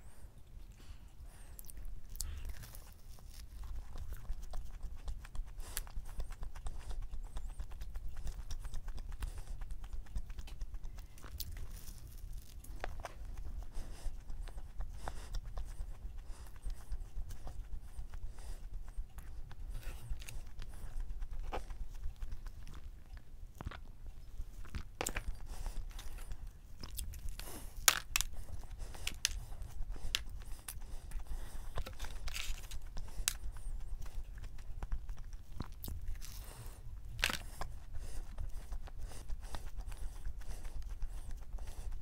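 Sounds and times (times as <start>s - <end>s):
chewing and mouth sounds: 0.0s - 42.0s
steady low hum: 0.0s - 42.0s.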